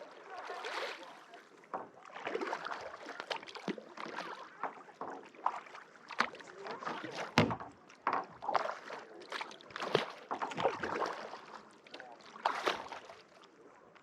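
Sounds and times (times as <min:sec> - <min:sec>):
paddle splashing in water: 0:00.0 - 0:13.6.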